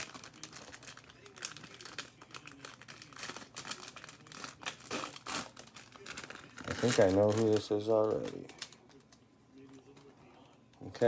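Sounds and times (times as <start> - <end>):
plastic wrapper crinkling and tearing: 0.0 - 11.0.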